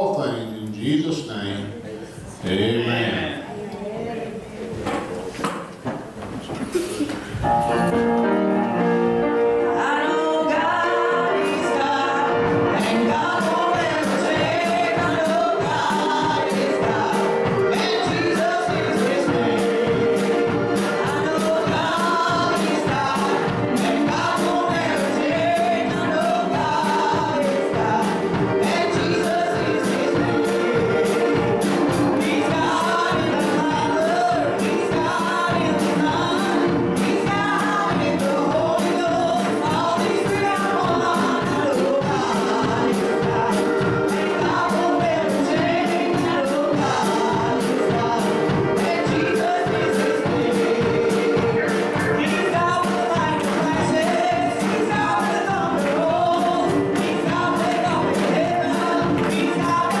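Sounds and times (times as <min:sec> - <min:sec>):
instrumental accompaniment with beat: 0:05.6 - 1:00.0
women singing gospel song: 0:09.5 - 1:00.0.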